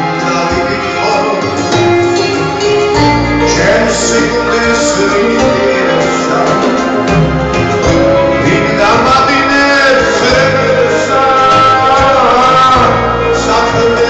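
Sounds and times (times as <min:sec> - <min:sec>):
instrumental backing with bass: 0:00.0 - 0:14.0
man singing gliding notes: 0:00.0 - 0:14.0.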